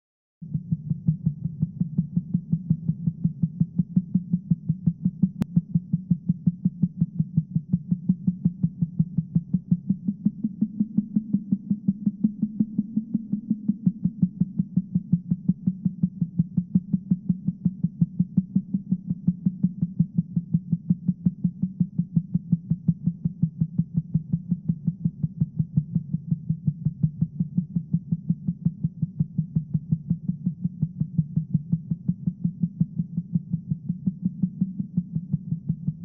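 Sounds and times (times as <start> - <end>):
low throbbing hum: 0.4 - 36.0.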